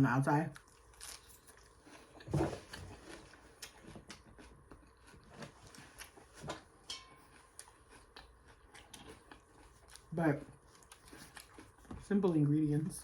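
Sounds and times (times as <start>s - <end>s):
person chewing food: 0.5s - 12.3s.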